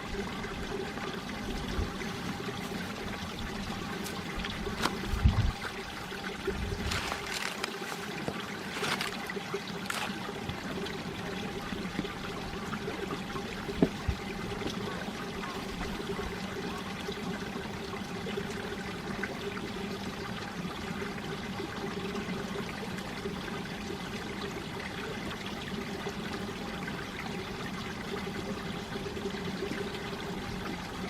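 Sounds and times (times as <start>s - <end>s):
stream water flowing over rocks: 0.0s - 31.0s.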